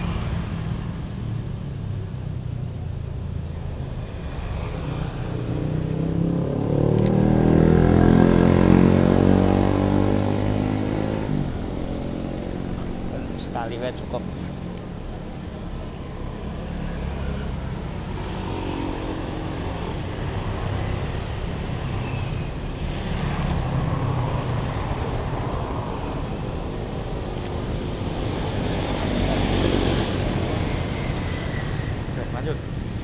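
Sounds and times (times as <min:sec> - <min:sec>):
cars passing: 0:00.0 - 0:33.0
motorbikes passing: 0:00.0 - 0:33.0.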